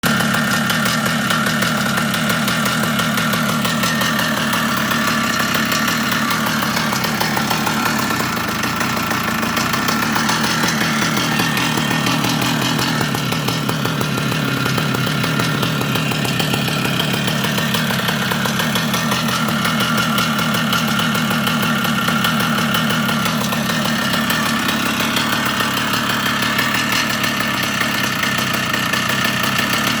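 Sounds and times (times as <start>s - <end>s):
motorbike engine running: 0.0s - 30.0s.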